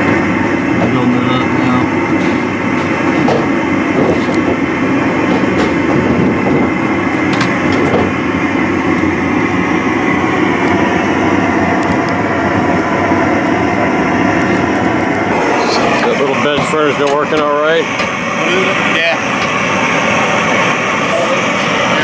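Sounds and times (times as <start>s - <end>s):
gas furnace roaring: 0.0s - 22.0s.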